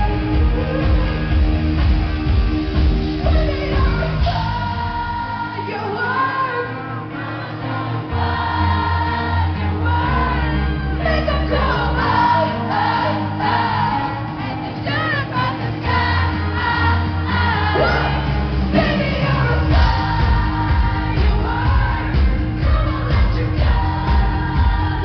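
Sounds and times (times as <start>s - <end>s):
live pop song over loudspeakers: 0.0s - 25.0s.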